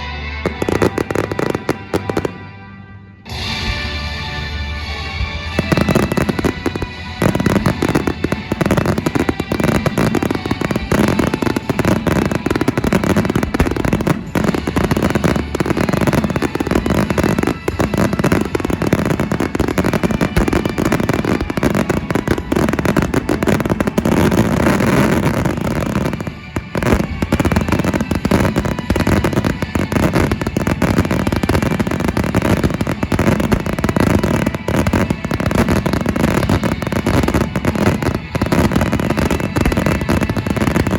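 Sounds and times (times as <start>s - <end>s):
fireworks bangs and crackles: 0.0s - 2.6s, 3.3s - 40.9s
music playing: 0.0s - 40.9s.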